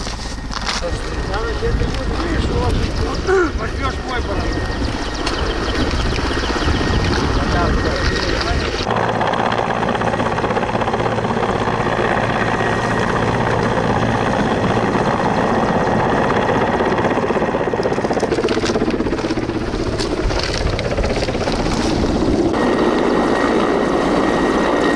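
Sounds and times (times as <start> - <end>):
helicopter rotor and engine: 0.0 - 24.9.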